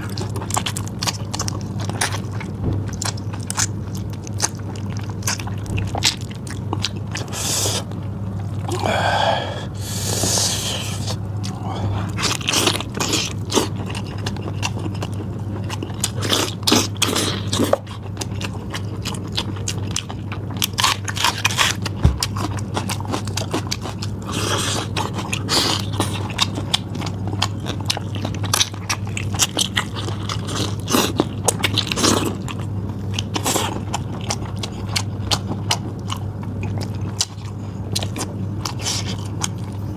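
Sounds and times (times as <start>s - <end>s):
person chewing meat: 0.0s - 39.9s
steady low hum: 0.0s - 39.9s.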